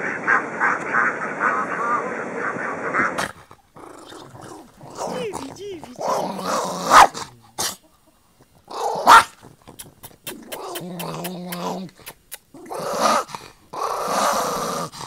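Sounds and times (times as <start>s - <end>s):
dog snarl-barking: 0.0s - 7.9s, 8.7s - 15.0s
dog growling: 0.0s - 15.0s.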